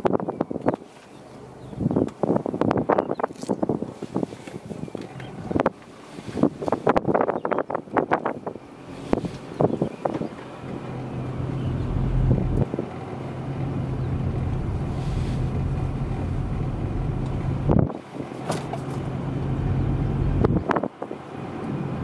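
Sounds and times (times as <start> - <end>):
wind noise: 0.0 - 1.0, 1.6 - 13.0, 13.6 - 22.0
car engine and tyre hum: 0.0 - 22.0.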